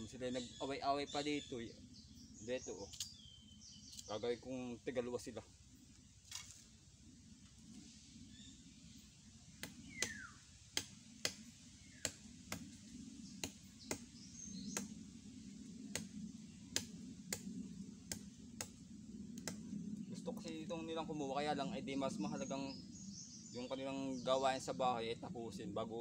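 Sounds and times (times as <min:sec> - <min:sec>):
faint low drone: 0:00.0 - 0:26.0.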